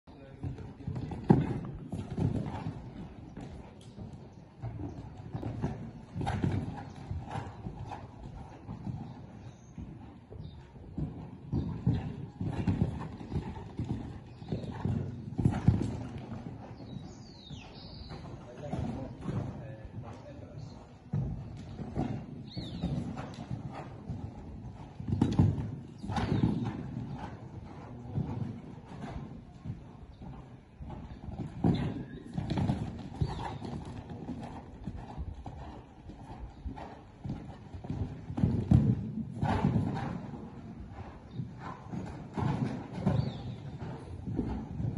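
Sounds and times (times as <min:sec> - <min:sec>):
horse hoofbeats on sand: 0:00.2 - 0:44.9.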